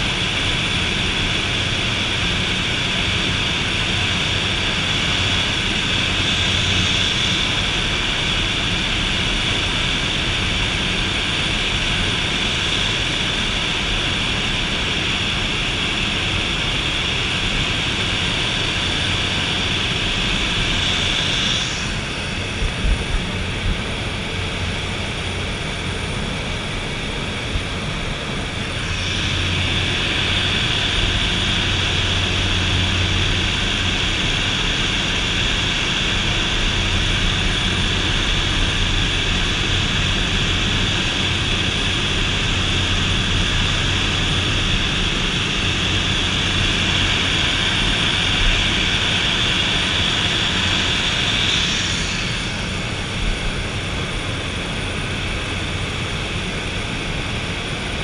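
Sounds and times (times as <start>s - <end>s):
high turbine whine: 0.0s - 58.0s
propeller aircraft engine droning: 0.0s - 58.0s.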